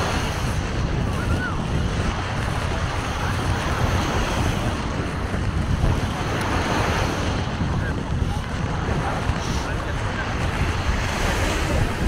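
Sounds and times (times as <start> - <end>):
waves breaking on beach: 0.0 - 12.0
wind rumbling on microphone: 0.0 - 12.0.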